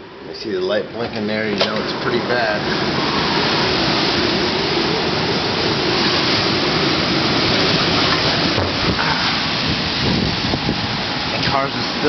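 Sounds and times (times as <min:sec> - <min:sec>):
strong wind rushing: 0:01.4 - 0:12.0.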